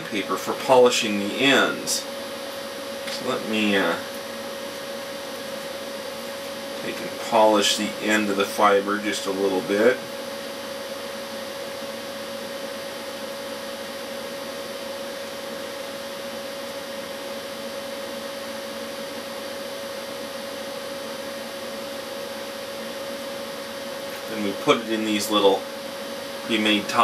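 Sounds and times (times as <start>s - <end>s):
mid-pitched hum: 0.0s - 27.0s.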